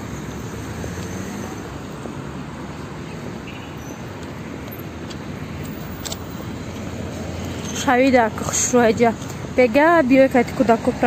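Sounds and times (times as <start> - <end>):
city road traffic: 0.0 - 11.0.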